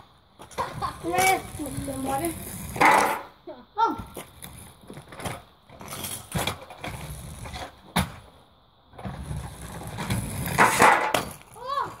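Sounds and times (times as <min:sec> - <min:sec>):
scooter wheels rolling on asphalt: 0:00.0 - 0:12.0.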